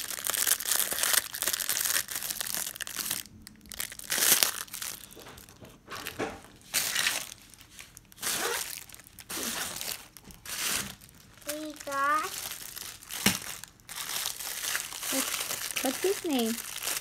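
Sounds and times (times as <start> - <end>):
toy packaging crinkling and tearing: 0.0 - 5.2, 6.6 - 17.0.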